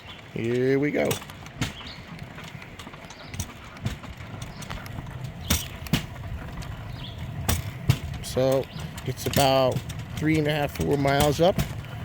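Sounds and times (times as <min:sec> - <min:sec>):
wheels clacking over rail joints: 0:00.0 - 0:12.0
wheels rumbling on railway track: 0:00.0 - 0:12.0.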